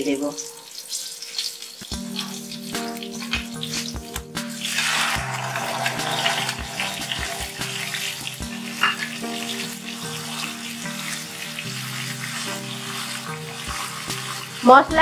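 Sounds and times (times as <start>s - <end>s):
paste sizzling in hot oil: 0.4s - 3.9s, 4.7s - 14.9s.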